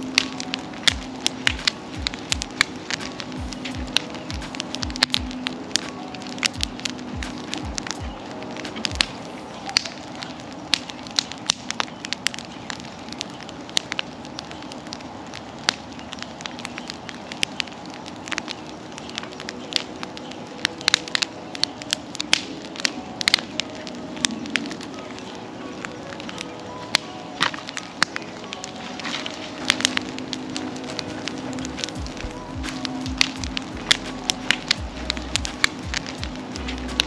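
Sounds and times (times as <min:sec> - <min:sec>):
bonfire crackling and popping: 0:00.0 - 0:37.0.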